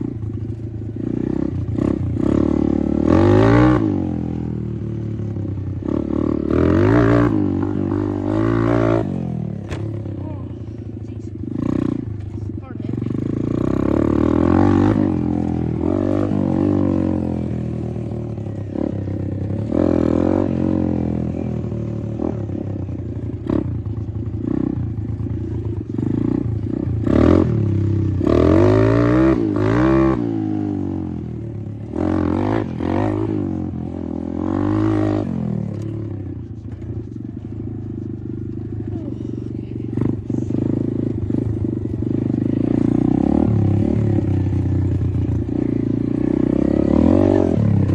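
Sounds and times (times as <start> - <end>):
dirt bike engine revving: 0.0 - 36.9, 38.9 - 47.9.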